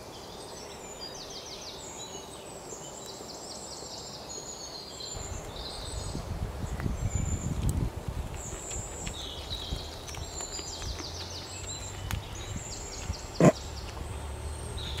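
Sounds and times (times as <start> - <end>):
birds chirping: 0.0 - 15.0
low outdoor hum: 0.0 - 15.0.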